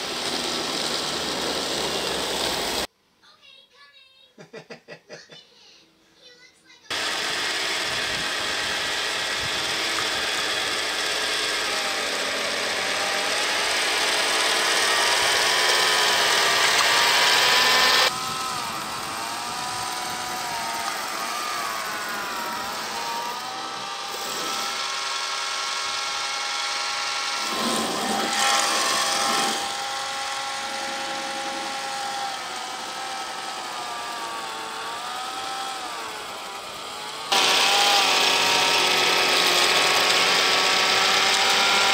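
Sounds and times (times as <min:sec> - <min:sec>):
electric motors whining: 0:00.0 - 0:02.9, 0:06.9 - 0:41.9.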